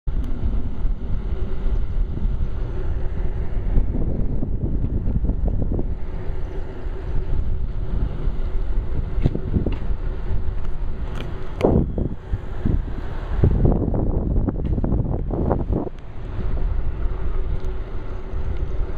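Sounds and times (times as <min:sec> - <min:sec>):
wind buffeting microphone: 0:00.1 - 0:18.9.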